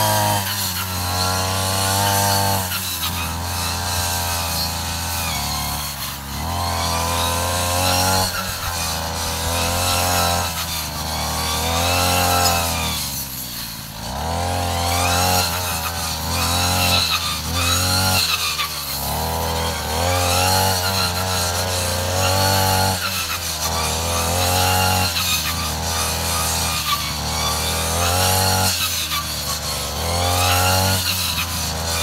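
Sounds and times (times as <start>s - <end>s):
brush cutter engine revving: 0.0s - 32.0s.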